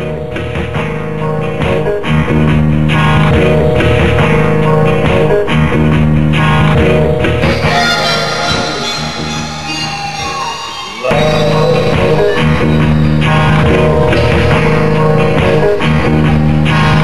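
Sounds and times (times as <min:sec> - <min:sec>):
plucked guitar music with bass: 0:00.0 - 0:17.0.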